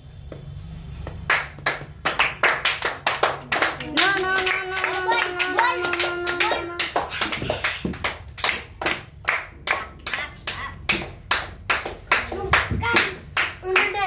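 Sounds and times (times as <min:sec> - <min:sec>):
boys clapping in rhythm: 0:01.1 - 0:14.0.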